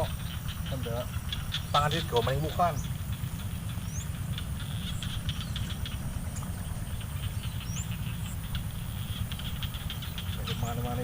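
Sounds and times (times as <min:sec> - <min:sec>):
bird chirps: 0:00.0 - 0:11.0
insect drone: 0:00.0 - 0:11.0.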